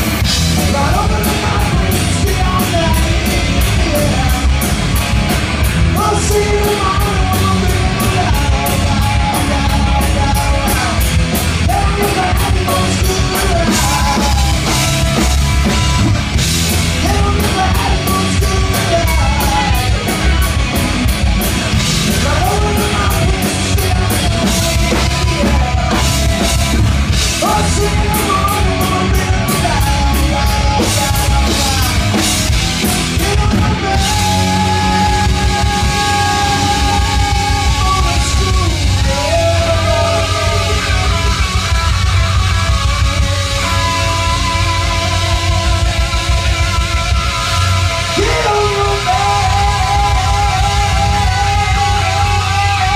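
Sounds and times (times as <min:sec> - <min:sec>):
drum kit beat: 0:00.0 - 0:52.9
live rock band playing: 0:00.0 - 0:52.9.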